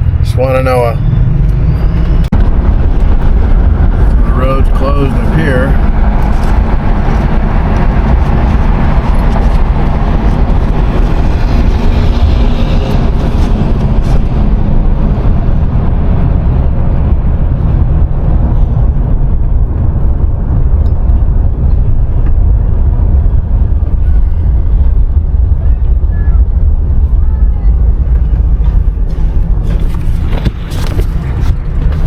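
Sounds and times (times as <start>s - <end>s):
car road and engine noise: 0.0s - 32.0s.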